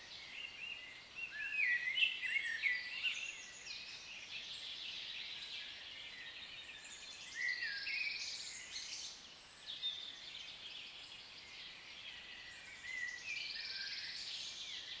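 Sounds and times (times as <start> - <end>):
wild birds singing and calling: 0.0 - 15.0.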